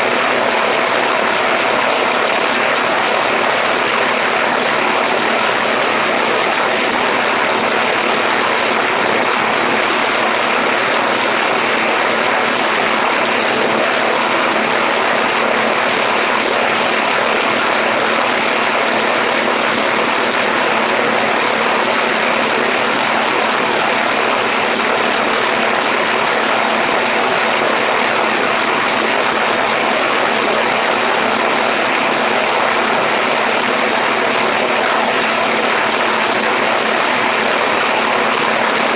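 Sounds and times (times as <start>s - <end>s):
faint aircraft engine and propeller: 0.0s - 38.9s.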